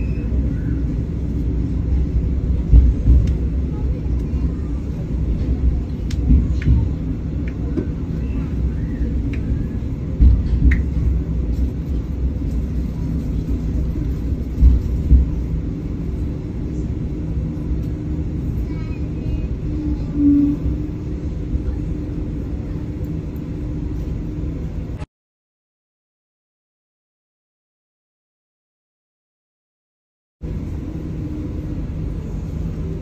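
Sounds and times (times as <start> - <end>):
train rumbling on rails: 0.0 - 25.1, 30.4 - 33.0.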